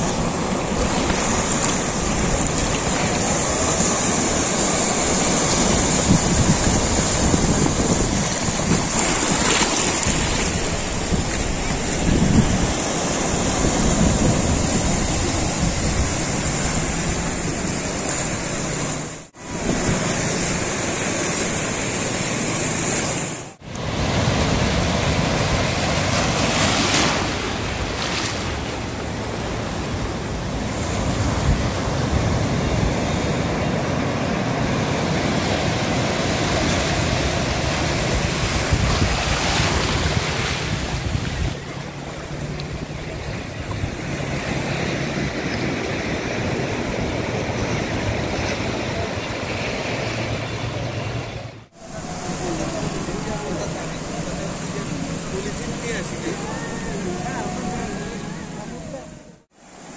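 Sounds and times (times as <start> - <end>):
surf breaking on rocks: 0.0 - 57.2.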